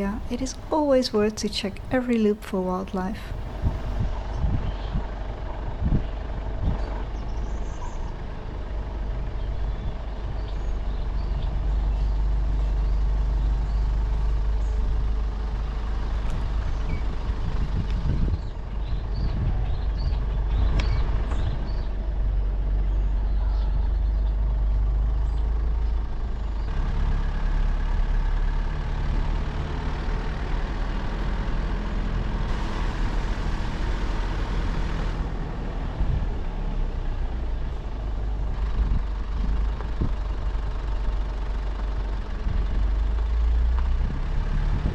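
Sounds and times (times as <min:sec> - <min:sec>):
car engine and tyres rumbling: 0:00.0 - 0:44.9.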